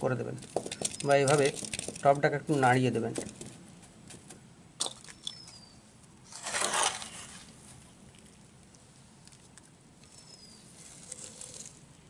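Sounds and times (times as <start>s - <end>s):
soil rustling in pot: 0.0s - 3.9s, 5.0s - 12.0s.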